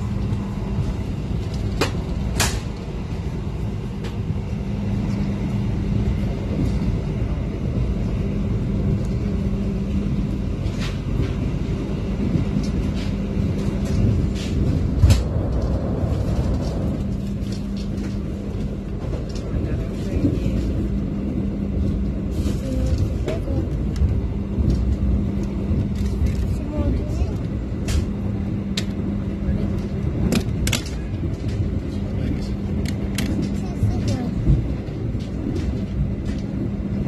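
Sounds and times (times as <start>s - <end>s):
train rumble inside carriage: 0.0s - 37.0s.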